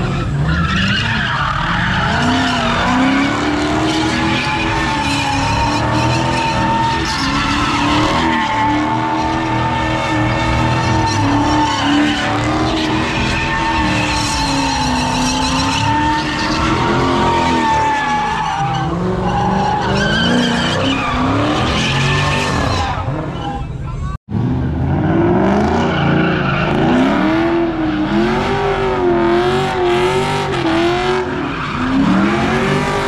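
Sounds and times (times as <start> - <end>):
car tyres squealing: 0.0 - 33.0.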